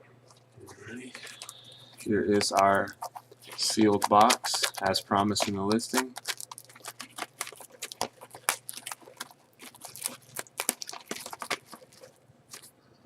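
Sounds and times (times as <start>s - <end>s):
plastic wrapper clicks and crackles: 1.1s - 12.7s.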